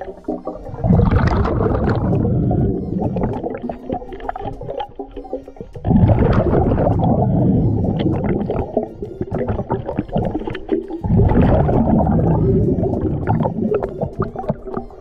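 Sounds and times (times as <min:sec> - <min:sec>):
gurgling exhaled bubbles: 0:00.0 - 0:15.0.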